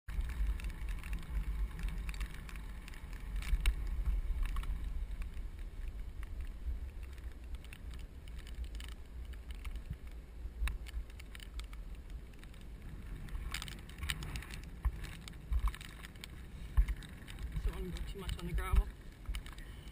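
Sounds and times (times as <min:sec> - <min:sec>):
bicycle clicks and rattles: 0:00.1 - 0:19.9
wind rumbling over microphone: 0:00.1 - 0:19.9.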